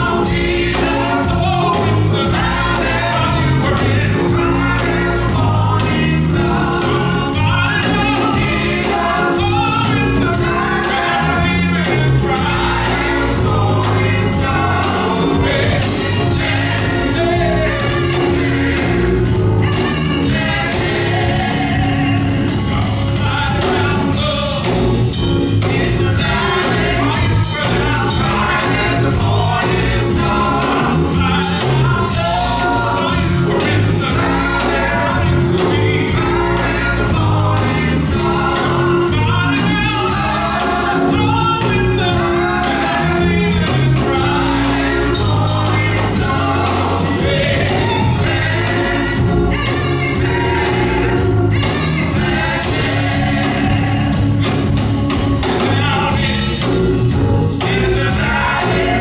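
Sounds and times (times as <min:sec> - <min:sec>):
gospel choir singing: 0:00.0 - 0:59.0
instrumental accompaniment with beat: 0:00.0 - 0:59.0.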